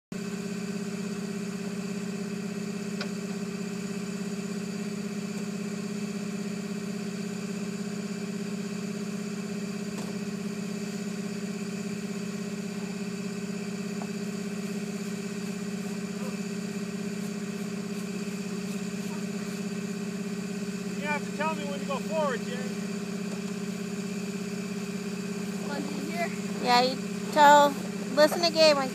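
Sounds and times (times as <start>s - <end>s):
snowcat engine idling: 0.2s - 28.9s.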